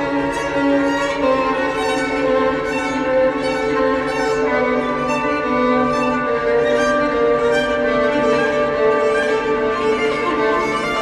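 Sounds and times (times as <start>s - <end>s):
violin and cello bowed strings: 0.0s - 11.0s.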